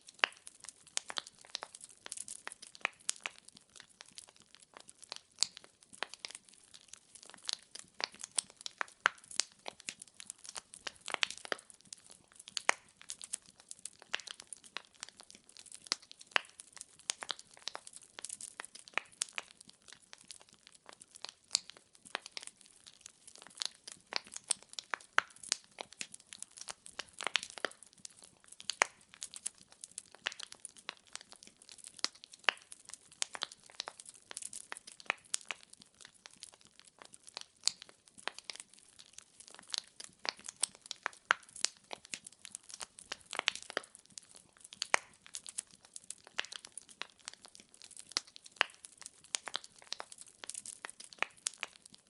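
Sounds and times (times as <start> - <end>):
burning firewood crackling: 0.0 - 52.0
faint steady hiss: 0.0 - 52.0.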